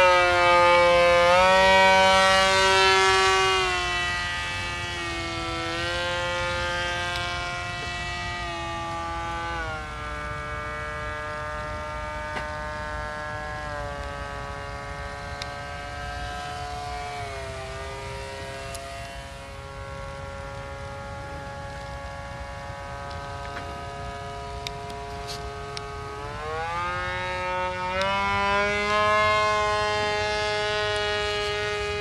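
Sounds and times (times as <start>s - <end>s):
model kite motor buzzing: 0.0s - 32.0s
wind rumble on microphone: 0.0s - 32.0s.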